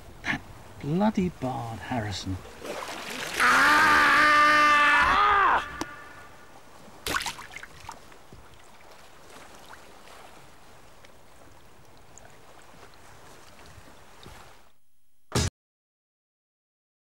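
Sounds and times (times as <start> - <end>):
faint water ambience: 0.0 - 15.2.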